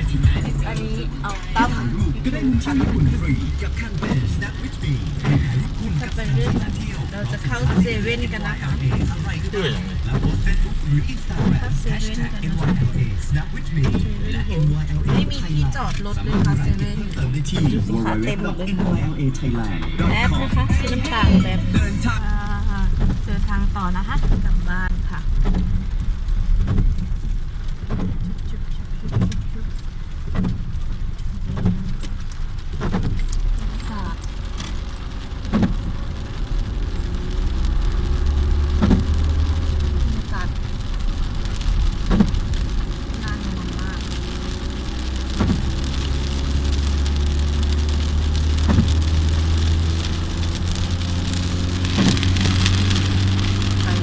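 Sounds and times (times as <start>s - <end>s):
car engine and tyre rumble: 0.0s - 54.0s
windscreen wipers sweeping: 0.0s - 54.0s.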